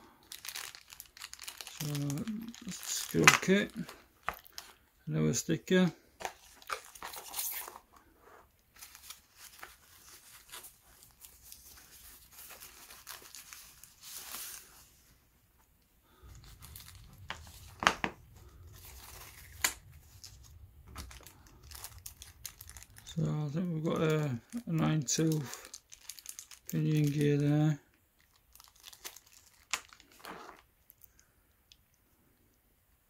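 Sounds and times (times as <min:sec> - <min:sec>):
paper wrapping rustling: 0:00.2 - 0:04.8, 0:06.2 - 0:15.2, 0:16.1 - 0:27.6, 0:28.2 - 0:30.7.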